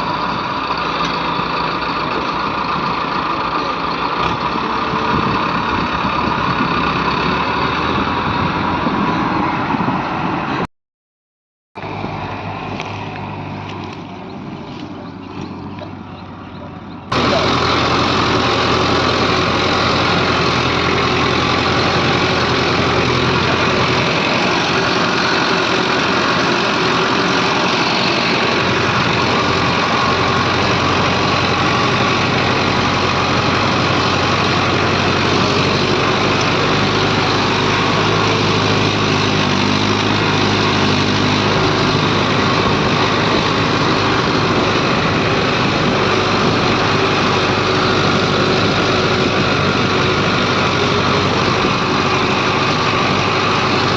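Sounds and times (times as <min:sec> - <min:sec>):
diesel machinery engine running: 0:00.0 - 0:10.7, 0:11.8 - 0:53.9.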